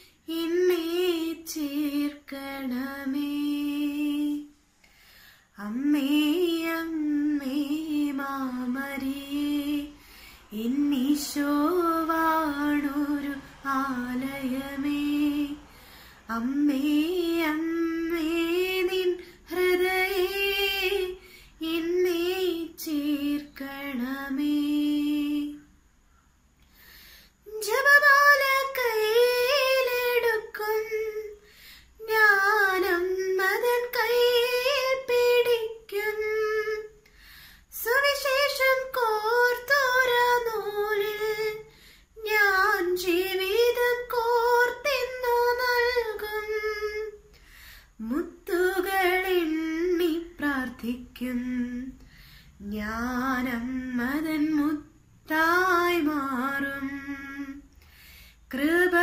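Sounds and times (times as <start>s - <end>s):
woman singing a hymn unaccompanied: 0.0s - 4.6s, 5.5s - 25.7s, 27.4s - 37.0s, 37.7s - 47.3s, 47.9s - 57.8s, 58.5s - 59.0s.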